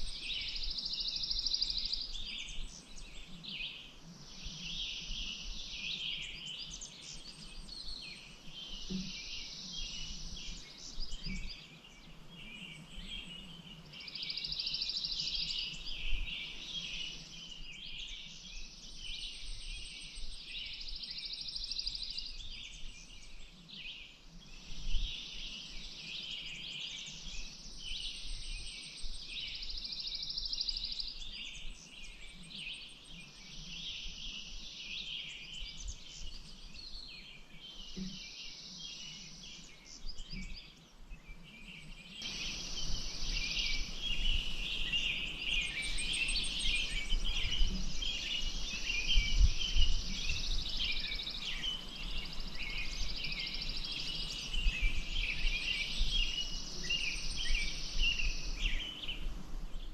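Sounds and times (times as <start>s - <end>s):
songbirds singing and chirping: 0.0s - 59.9s.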